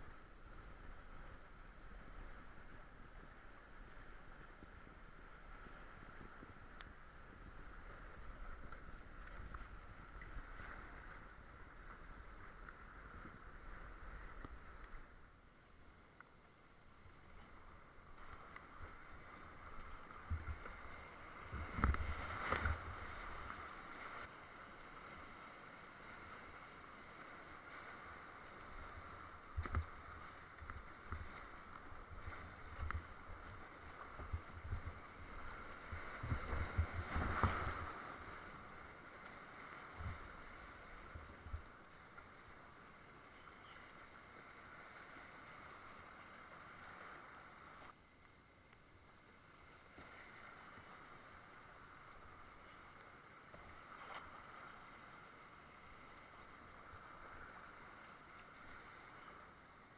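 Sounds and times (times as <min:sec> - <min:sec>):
creek water rushing: 0:00.0 - 0:48.0, 0:48.9 - 0:59.9.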